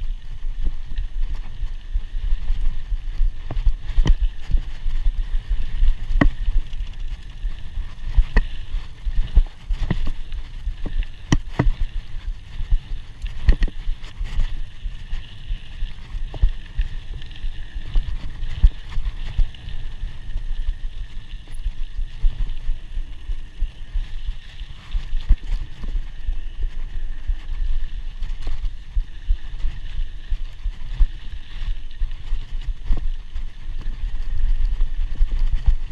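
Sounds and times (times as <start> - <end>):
wind rumble on camera: 0.0 - 35.9
bike chain and frame rattling: 0.1 - 35.9.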